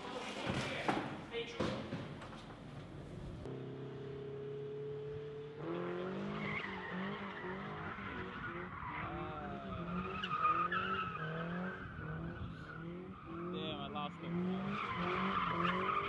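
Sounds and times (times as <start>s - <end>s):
tyres skidding: 0.0s - 16.0s
car engine revving: 3.1s - 16.0s.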